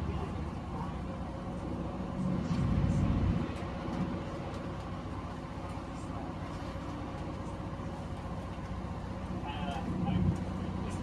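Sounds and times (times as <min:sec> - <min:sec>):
train diesel engine hum: 0:00.0 - 0:11.0.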